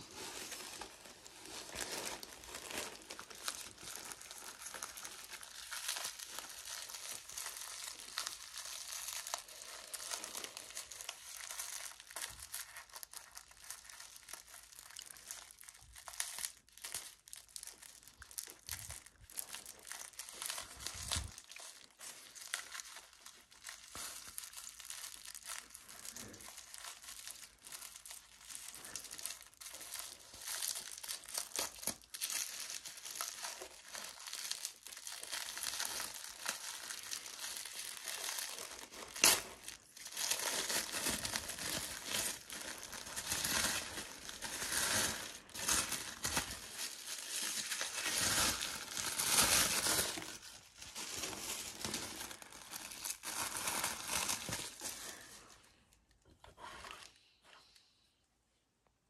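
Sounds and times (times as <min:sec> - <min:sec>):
tissue paper rustling: 0:00.0 - 0:55.6.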